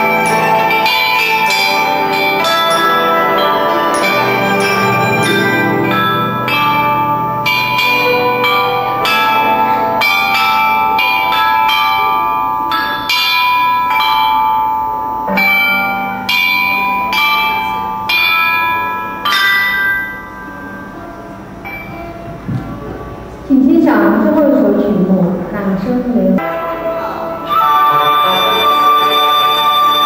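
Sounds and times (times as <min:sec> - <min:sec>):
bronze chime bells ringing: 0:00.0 - 0:23.4, 0:26.4 - 0:30.0.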